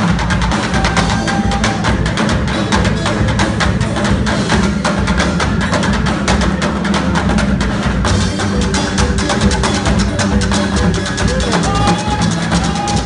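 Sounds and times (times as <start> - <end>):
low bass line: 0.0 - 13.0
marimba band playing: 0.0 - 13.0.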